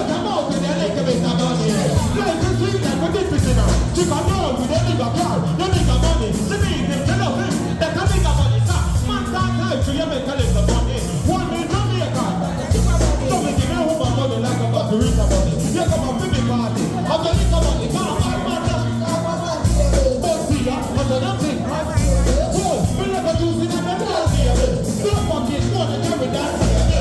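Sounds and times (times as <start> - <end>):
heavy pulsing bass: 0.0 - 27.0
song with sung vocal: 0.0 - 27.0.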